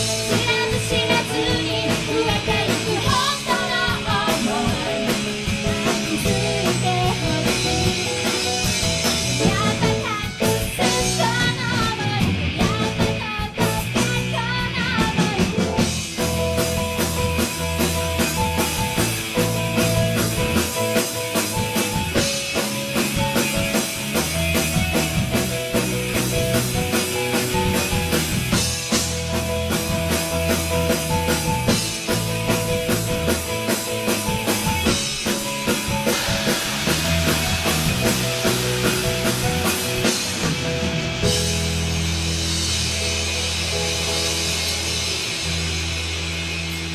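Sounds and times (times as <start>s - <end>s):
rock song with drums and guitar: 0.0s - 46.9s.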